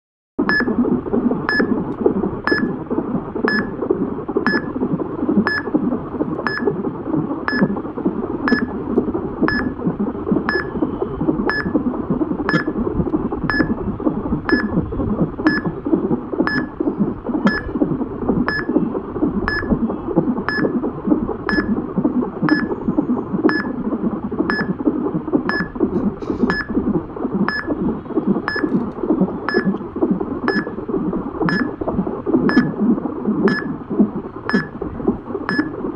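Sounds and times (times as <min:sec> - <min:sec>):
fetal heartbeat whoosh on doppler: 0:00.4 - 0:35.9.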